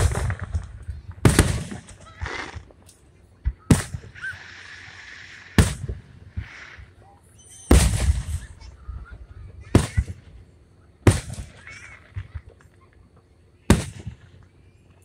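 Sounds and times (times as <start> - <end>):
firework shells bursting: 0.0 - 8.8, 9.5 - 15.0.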